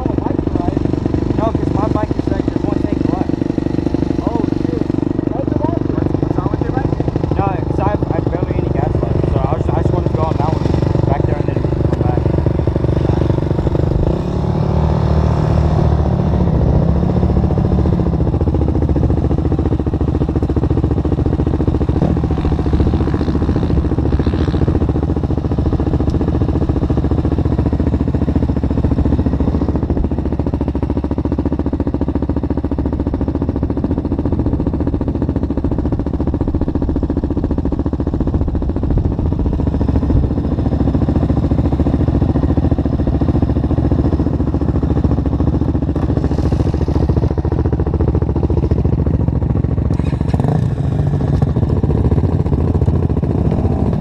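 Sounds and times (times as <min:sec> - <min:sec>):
atv engine idling: 0:00.0 - 0:54.0.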